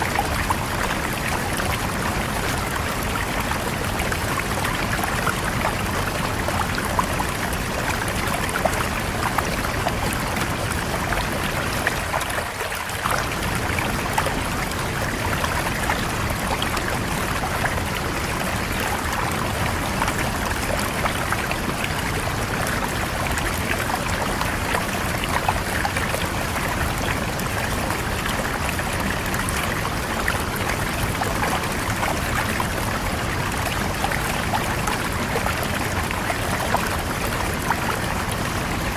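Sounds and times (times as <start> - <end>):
river water flowing and splashing: 0.0 - 38.9.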